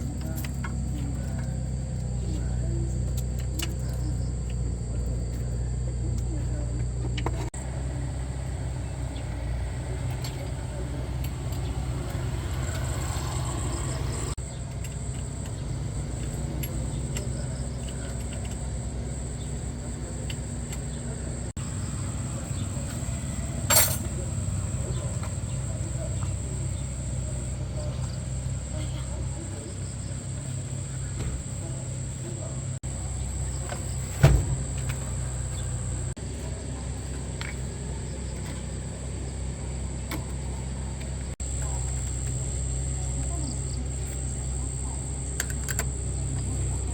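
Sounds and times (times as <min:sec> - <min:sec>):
pickup truck engine idling: 0:00.0 - 0:46.9.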